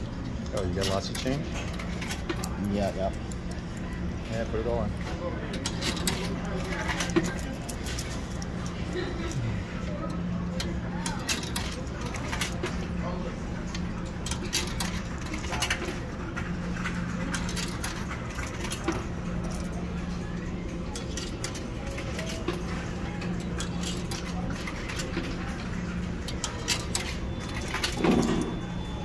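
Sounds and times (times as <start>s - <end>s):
steady low hum: 0.0s - 29.0s
coins clinking into a coin slot: 0.5s - 4.4s, 5.4s - 9.4s, 10.0s - 29.0s.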